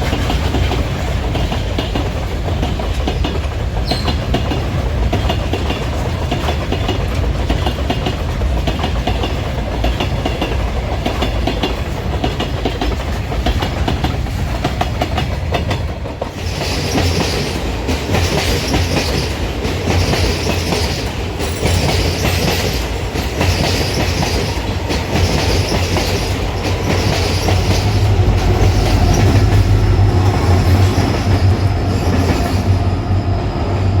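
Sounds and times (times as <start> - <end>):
train rumble: 0.0 - 34.0
train wheels clattering: 0.0 - 34.0.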